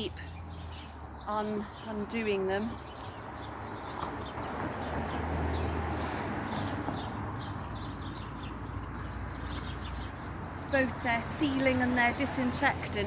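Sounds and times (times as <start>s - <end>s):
small bird chirping: 0.0s - 11.7s.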